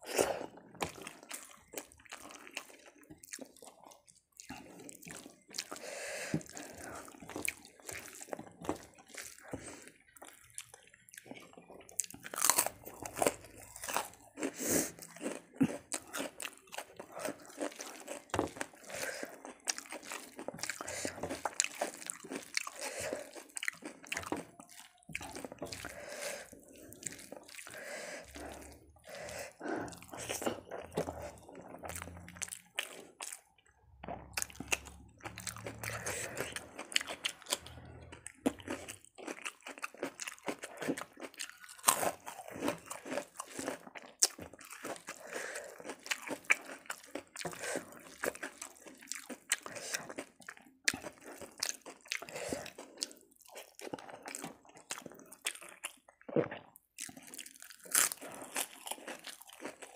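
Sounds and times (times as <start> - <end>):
crunchy bites and chewing: 0.0 - 59.9.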